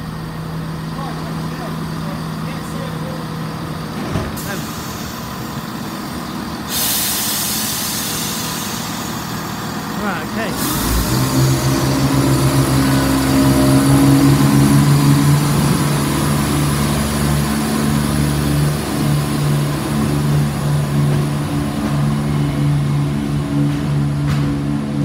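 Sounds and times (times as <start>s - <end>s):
train diesel engine droning: 0.0s - 25.0s.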